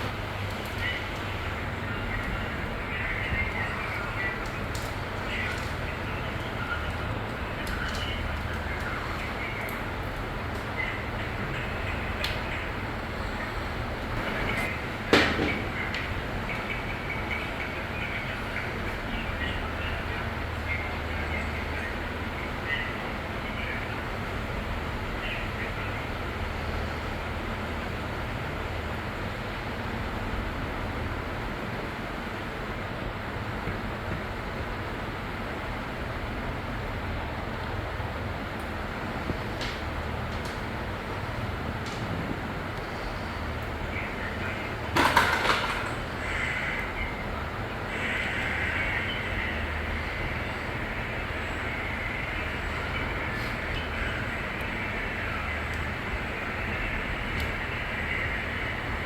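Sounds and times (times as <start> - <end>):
factory machinery hum and hiss: 0.0 - 59.0.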